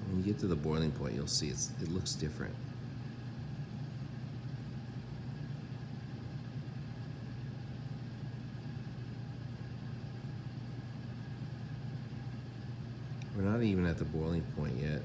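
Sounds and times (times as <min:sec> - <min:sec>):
low hum of laboratory equipment: 0:00.0 - 0:15.0.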